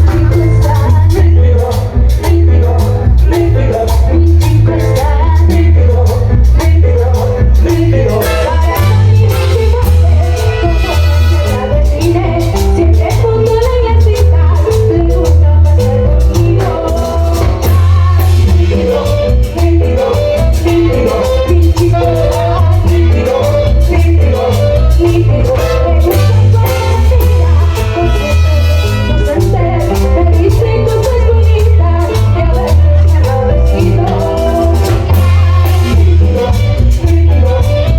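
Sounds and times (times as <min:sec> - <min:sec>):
band playing latin dance music: 0:00.0 - 0:37.9
heavy bass line: 0:00.0 - 0:37.9.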